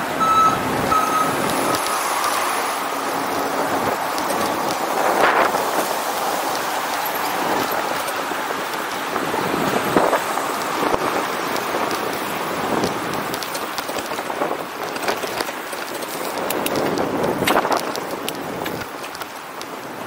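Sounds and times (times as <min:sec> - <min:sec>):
rushing noise of bicycle ride: 0:00.0 - 0:20.0
traffic: 0:00.0 - 0:20.0
bicycle clicks and rattles: 0:01.4 - 0:19.8.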